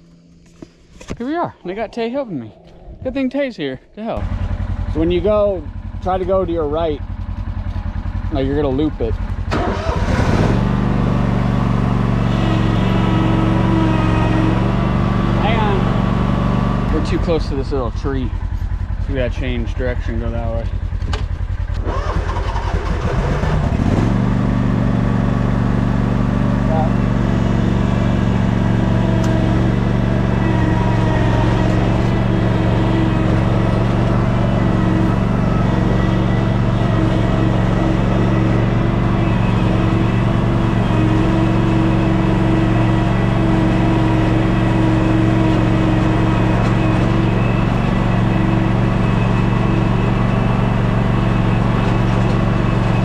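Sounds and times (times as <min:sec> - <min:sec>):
engine drone: 0:00.0 - 0:53.0.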